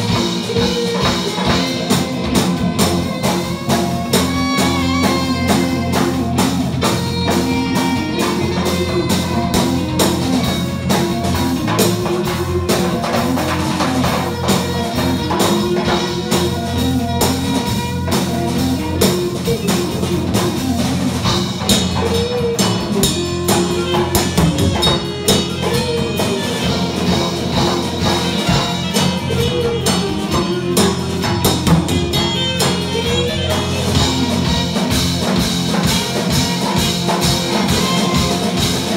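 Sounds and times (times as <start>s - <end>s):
drums with steady beat: 0.0s - 38.9s
electric guitar: 0.0s - 38.9s
live band playing: 0.0s - 38.9s.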